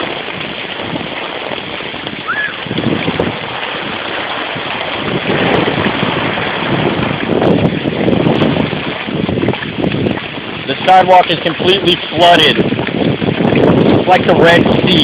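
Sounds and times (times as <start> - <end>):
flood water rushing and splashing: 0.0 - 15.0
heavy rain pouring: 0.0 - 15.0
wind buffeting microphone: 0.0 - 15.0.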